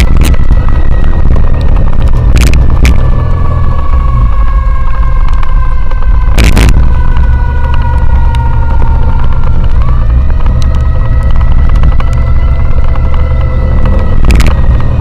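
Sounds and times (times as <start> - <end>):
ambulance siren: 0.0 - 15.0
motorcycle engine rumble: 0.0 - 15.0.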